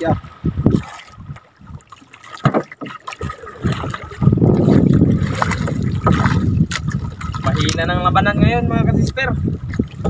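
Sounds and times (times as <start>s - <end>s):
wind buffeting microphone: 0.0s - 2.0s, 3.2s - 10.0s
water lapping against boat: 0.0s - 10.0s.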